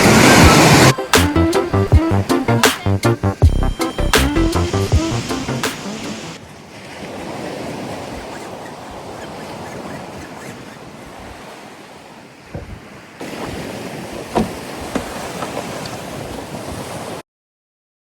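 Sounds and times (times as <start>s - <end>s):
ocean surf washing: 0.0s - 17.2s.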